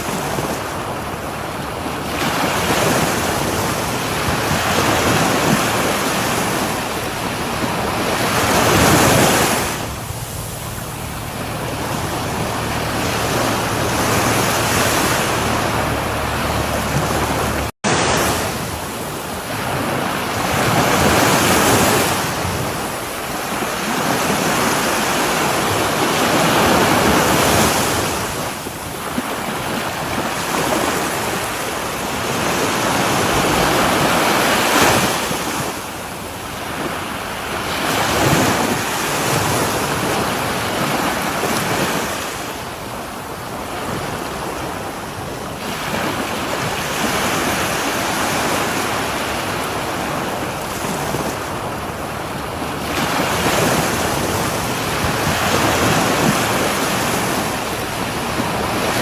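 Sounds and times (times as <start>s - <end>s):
waves breaking on shore: 0.0s - 59.0s.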